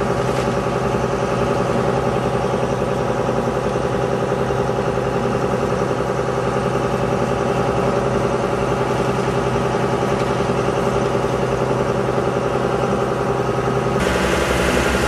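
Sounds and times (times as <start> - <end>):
boat engine throbbing: 1.0 - 15.0.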